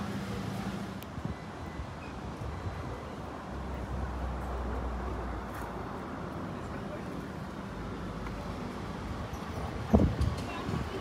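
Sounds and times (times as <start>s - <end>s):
street background noise: 0.0s - 11.0s.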